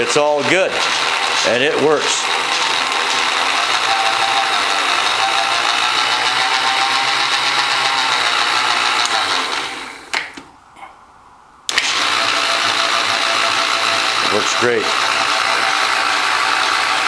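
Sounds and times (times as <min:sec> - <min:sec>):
machine motor whirring: 0:00.3 - 0:10.1, 0:11.7 - 0:17.0.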